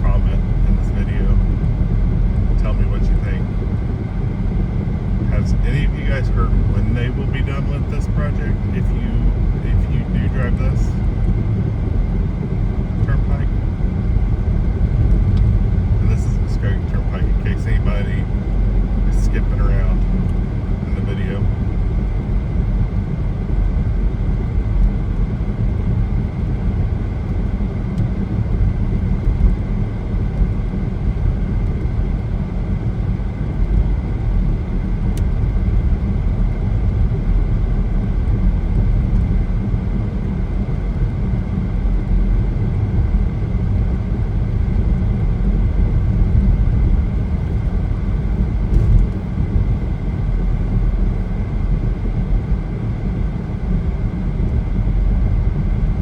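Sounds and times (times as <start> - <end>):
tyre and engine rumble: 0.0 - 56.0.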